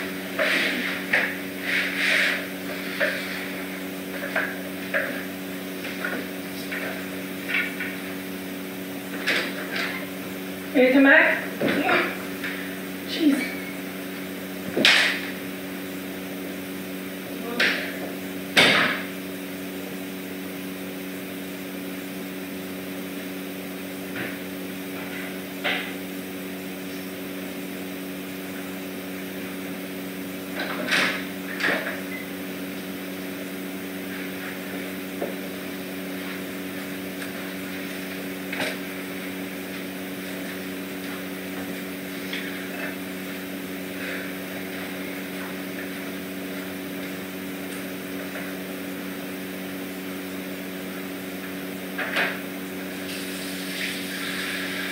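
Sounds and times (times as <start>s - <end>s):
mechanical room hum: 0.0s - 54.9s.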